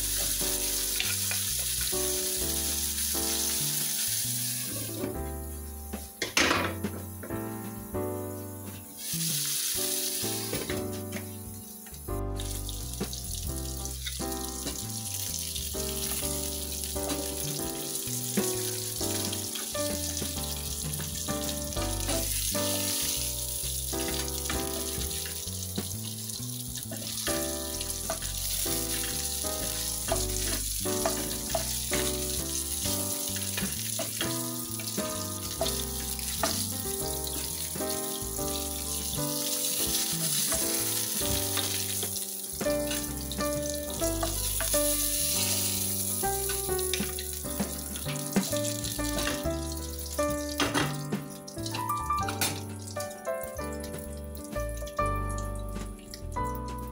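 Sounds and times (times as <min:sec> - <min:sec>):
background music with bass line: 0:00.0 - 0:56.9
fish sizzling in hot oil: 0:00.0 - 0:56.9.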